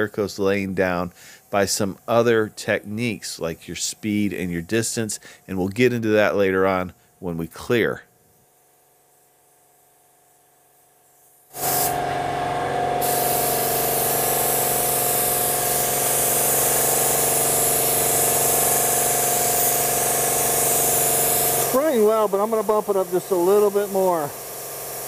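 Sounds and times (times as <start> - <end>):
paint gun spraying hiss: 0.4 - 12.1, 13.0 - 25.0.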